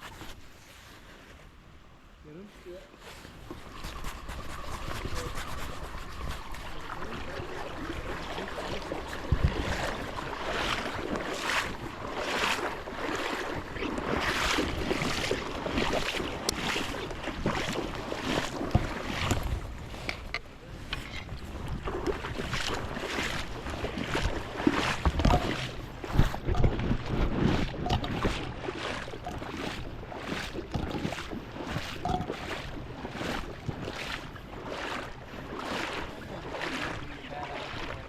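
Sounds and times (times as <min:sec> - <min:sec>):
creek water sloshing and splashing: 0:02.6 - 0:38.0
rush of high water: 0:03.1 - 0:38.0
wind rumbling on microphone: 0:03.2 - 0:38.0.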